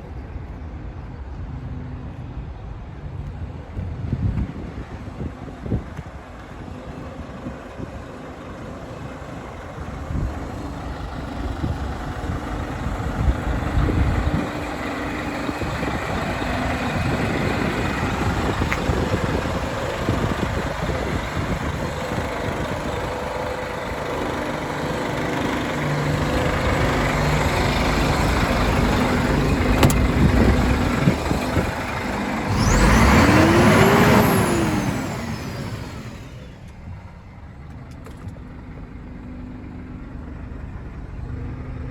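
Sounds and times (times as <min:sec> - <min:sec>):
passing vehicle rush: 0:00.0 - 0:36.7
heavy truck engine: 0:00.0 - 0:41.9
road and wind noise: 0:00.0 - 0:41.9.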